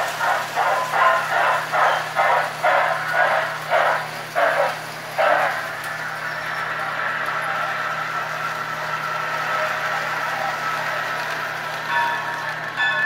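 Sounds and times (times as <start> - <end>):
locomotive chuffing on record: 0.0 - 13.0.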